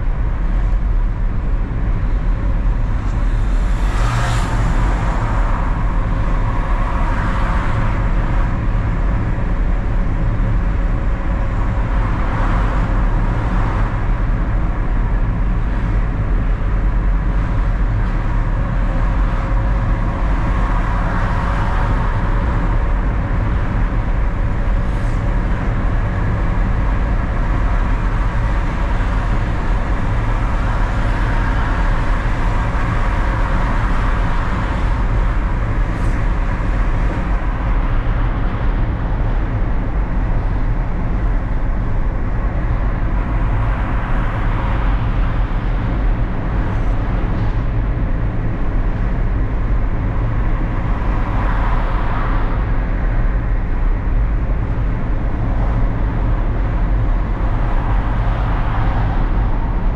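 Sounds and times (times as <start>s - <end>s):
car engine and tyre rumble: 0.0s - 59.9s
passing traffic: 0.0s - 59.9s.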